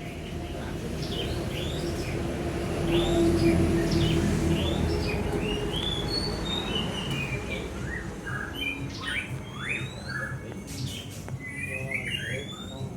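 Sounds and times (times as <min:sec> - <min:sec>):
songbirds chirping and whistling: 0:00.0 - 0:12.9.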